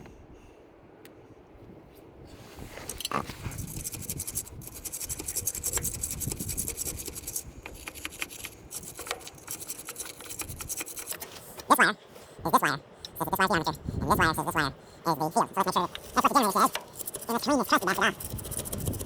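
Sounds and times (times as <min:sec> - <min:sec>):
close scratching and rubbing: 0:02.3 - 0:19.0.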